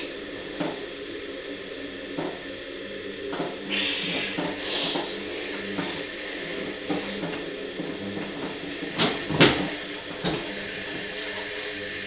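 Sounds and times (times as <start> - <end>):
cymbals hissing: 0.0 - 12.0.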